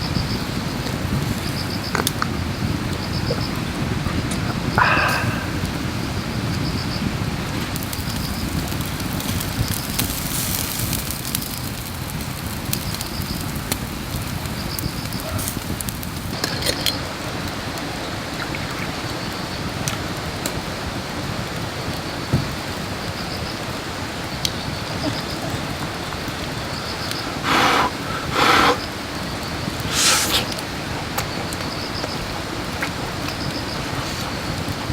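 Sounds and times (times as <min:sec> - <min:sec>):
steady outdoor rumble: 0:00.0 - 0:34.9
wood fire crackling: 0:00.0 - 0:34.9.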